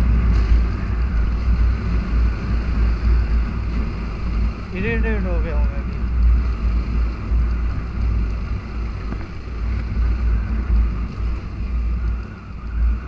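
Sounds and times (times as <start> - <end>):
motorcycle engine: 0.0 - 13.0
wind buffeting microphone: 0.0 - 13.0.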